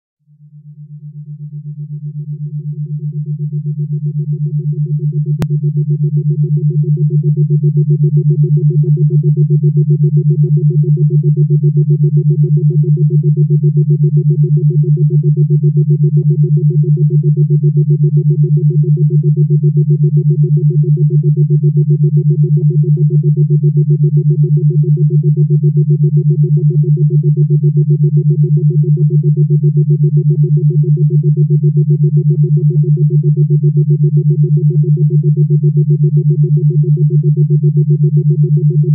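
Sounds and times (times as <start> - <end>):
pulsing synthesized drone: 2.4 - 38.9.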